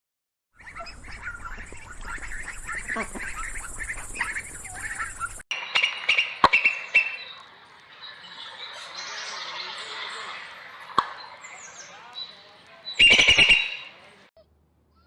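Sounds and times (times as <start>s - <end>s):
birds chirping: 0.5s - 15.0s
high bird call: 0.6s - 15.0s.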